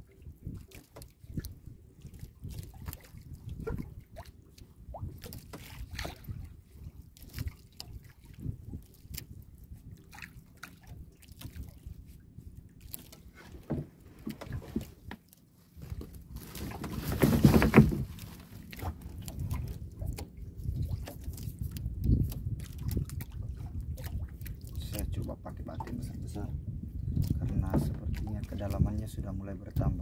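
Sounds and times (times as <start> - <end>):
water splashing: 0.0 - 9.3, 9.9 - 25.0
water lapping against hull: 0.0 - 30.0.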